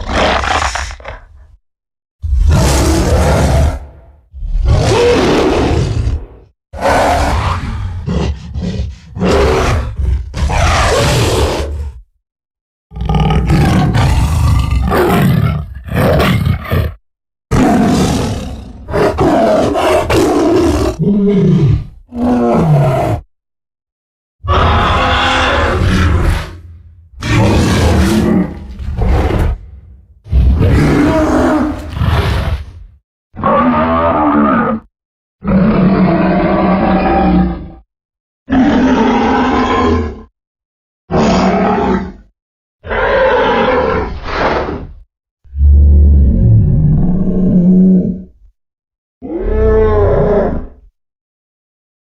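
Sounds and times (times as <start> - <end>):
creature roars and growls: 0.0 - 1.6, 2.2 - 12.1, 12.9 - 23.3, 24.4 - 37.9, 38.5 - 40.3, 41.1 - 48.4, 49.2 - 51.0.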